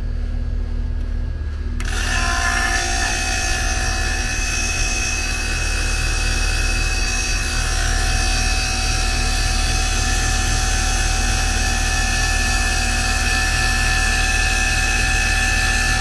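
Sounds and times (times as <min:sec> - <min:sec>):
vacuum pump running: 0:00.0 - 0:16.0.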